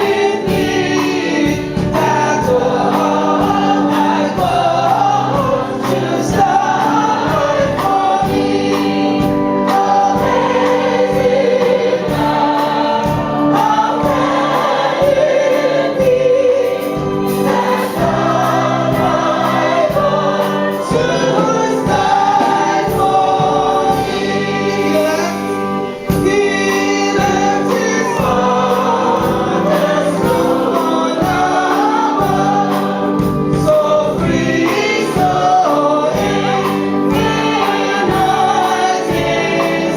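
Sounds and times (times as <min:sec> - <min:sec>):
choir singing gospel: 0:00.0 - 0:39.9.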